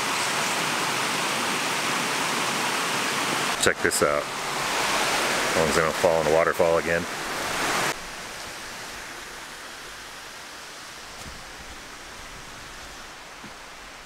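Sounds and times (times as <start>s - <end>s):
waterfall and creek rushing: 0.0s - 14.0s.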